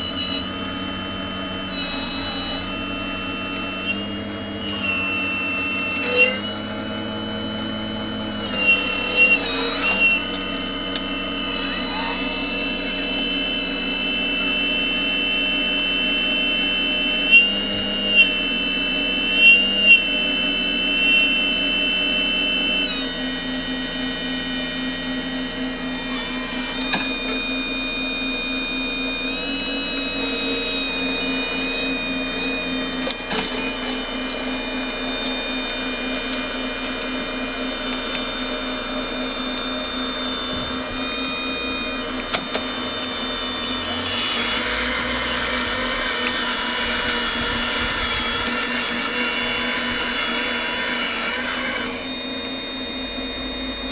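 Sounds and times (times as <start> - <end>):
electric motors whining: 0.0 - 53.9.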